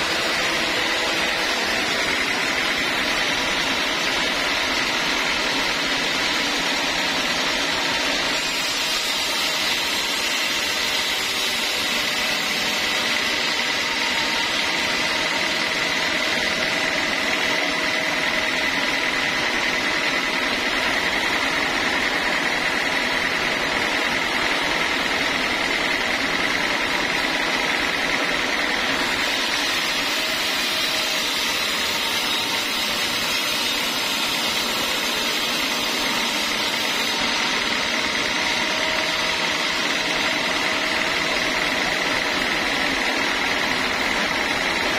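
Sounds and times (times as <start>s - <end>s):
band sawmill cutting log: 0.0s - 44.9s
high saw whine: 0.0s - 44.9s.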